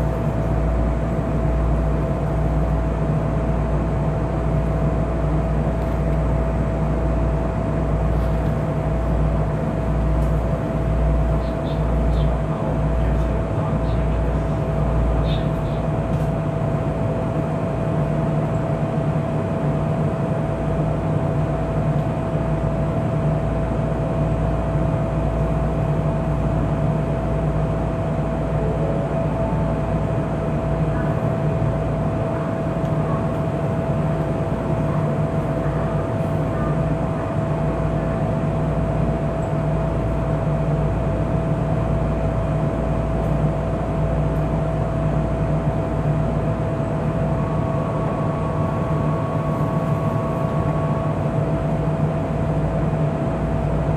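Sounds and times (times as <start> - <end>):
electric train humming: 0.0 - 53.9.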